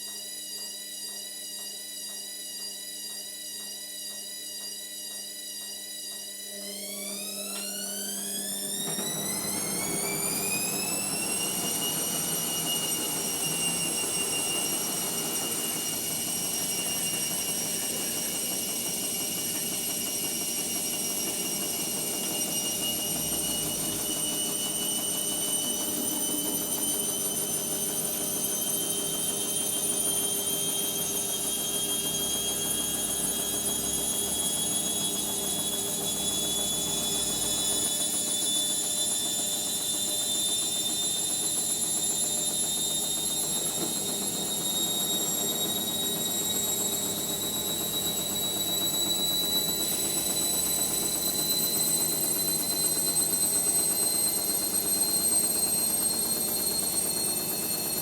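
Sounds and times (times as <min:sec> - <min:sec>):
washing machine motor whine: 0:00.0 - 0:58.0.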